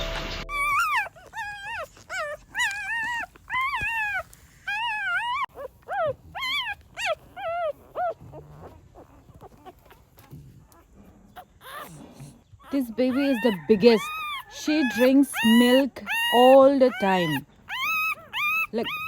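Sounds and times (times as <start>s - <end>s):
puppies whimpering and squealing: 0.4s - 19.0s.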